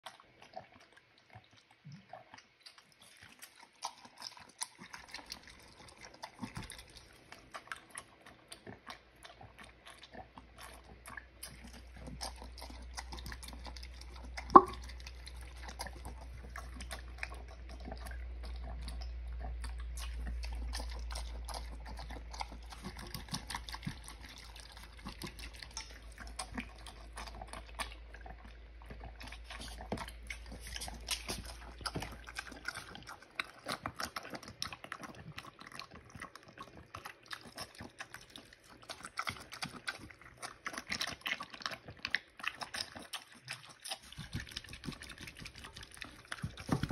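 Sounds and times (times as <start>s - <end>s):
pig slurping and chewing: 0.0s - 46.9s.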